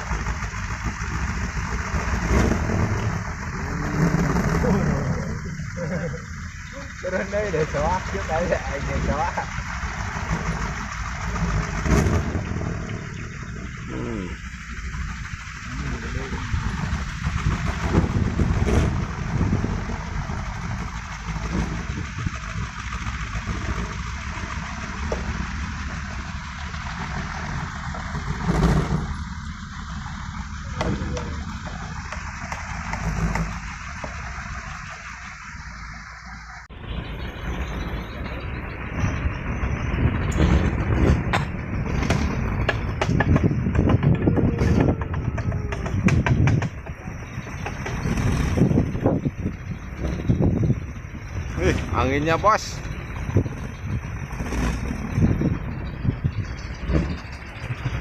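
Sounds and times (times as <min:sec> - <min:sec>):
rushing wind: 0:00.0 - 0:58.0
wooden propeller whirring: 0:00.0 - 0:58.0.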